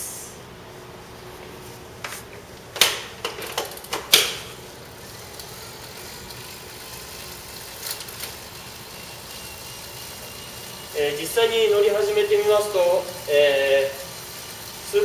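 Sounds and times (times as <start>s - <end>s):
bike trainer roller running: 2.9s - 15.0s.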